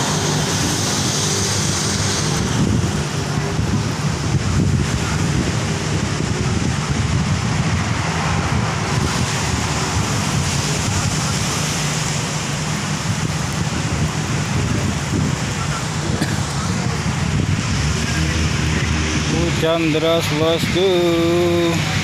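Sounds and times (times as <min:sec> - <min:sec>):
heavy rain on a wet road: 0:00.0 - 0:22.0
wind buffeting microphone: 0:00.0 - 0:22.0.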